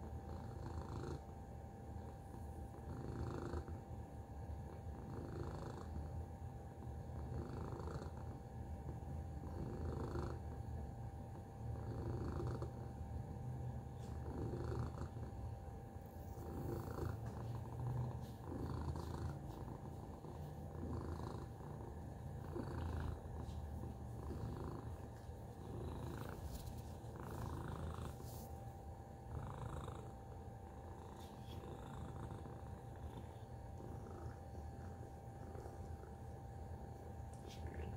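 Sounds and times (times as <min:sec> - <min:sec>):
cat purring: 0:00.0 - 0:37.9.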